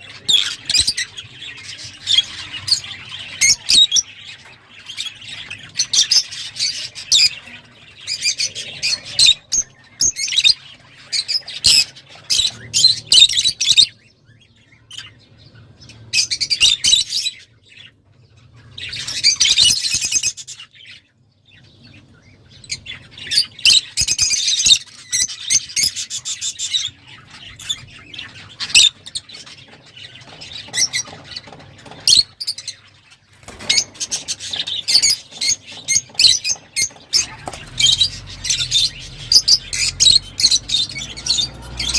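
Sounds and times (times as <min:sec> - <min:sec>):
lovebirds chattering and squawking: 0:00.0 - 0:41.9.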